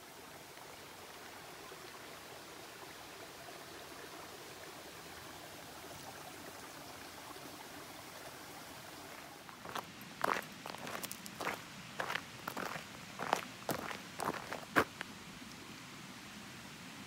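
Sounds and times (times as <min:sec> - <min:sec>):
creek running over rocks: 0:00.0 - 0:17.0.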